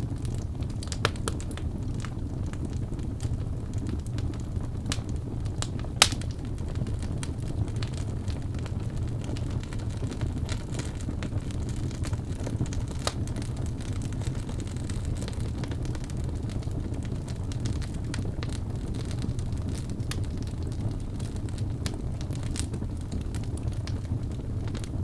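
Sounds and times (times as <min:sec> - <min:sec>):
fire burning rumble: 0:00.0 - 0:25.0
fire pops and snaps: 0:00.0 - 0:25.0.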